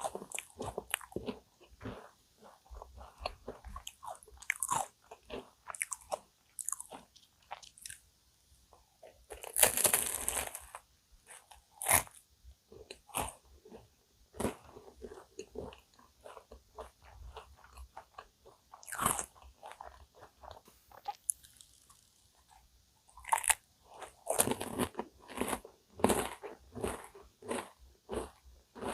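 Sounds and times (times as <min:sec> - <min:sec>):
crunchy chewing: 0:00.0 - 0:08.0, 0:09.0 - 0:28.9.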